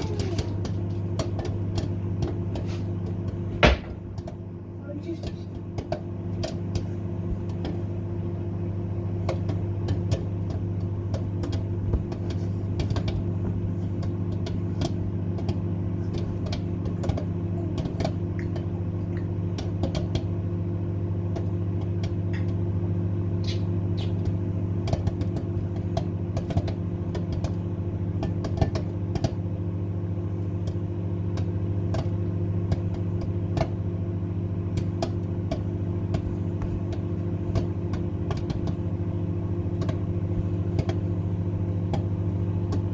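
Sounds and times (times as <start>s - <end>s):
microwave oven humming: 0.0s - 42.9s
popcorn popping: 0.0s - 42.9s.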